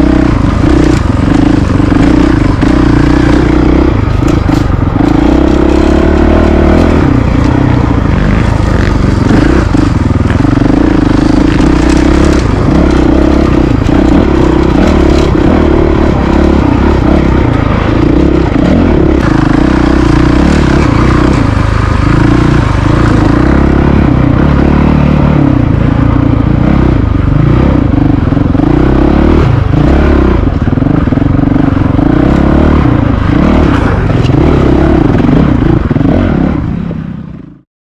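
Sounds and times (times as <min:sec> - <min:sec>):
dirt bike engine running: 0:00.0 - 0:37.6.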